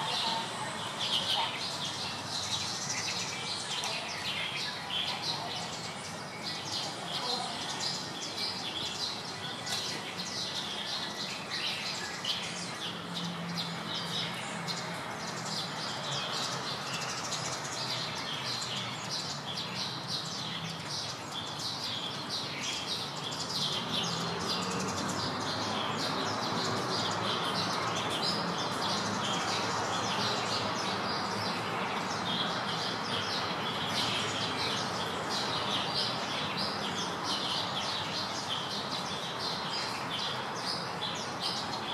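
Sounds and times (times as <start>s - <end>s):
outdoor background noise: 0.0s - 41.9s
small birds chirping: 0.0s - 41.9s.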